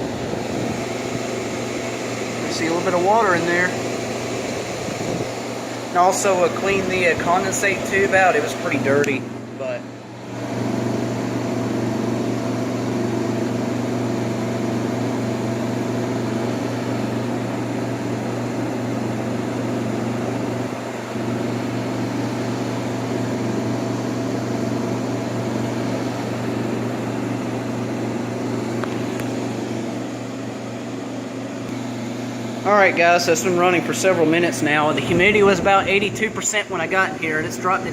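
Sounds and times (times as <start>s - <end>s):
air rushing from blower: 0.0s - 37.9s
compressor low hum: 0.0s - 37.9s.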